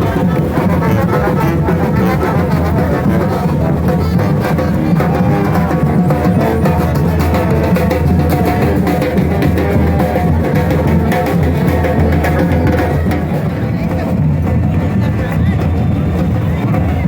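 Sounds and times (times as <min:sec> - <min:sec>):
dance music with drums: 0:00.0 - 0:17.0.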